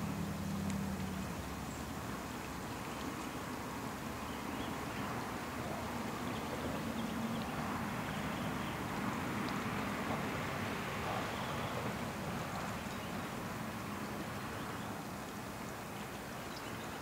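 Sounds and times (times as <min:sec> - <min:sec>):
road traffic drone: 0:00.0 - 0:16.2.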